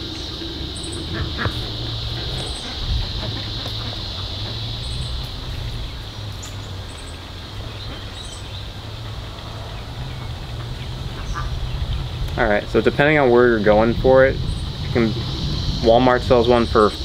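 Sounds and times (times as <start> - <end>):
high-pitched insect drone: 0.0 - 9.7, 10.8 - 17.0
bird chirps: 0.0 - 12.3, 13.7 - 17.0
low steady hum: 0.0 - 17.0.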